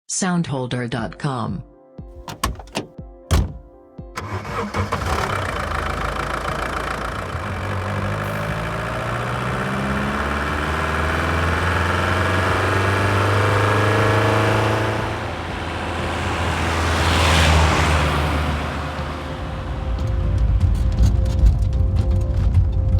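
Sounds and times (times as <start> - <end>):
diesel engine starting and revving: 2.2 - 2.9, 4.2 - 22.9.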